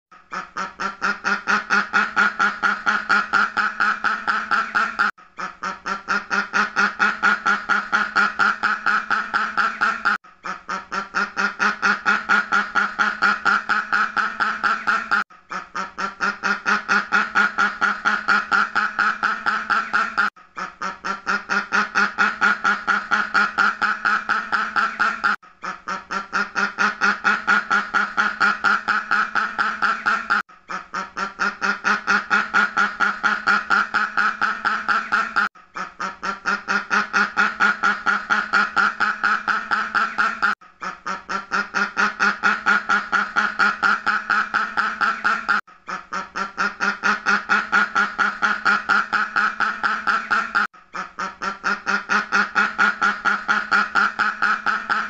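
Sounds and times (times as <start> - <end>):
duck quacking: 0.2 - 55.0.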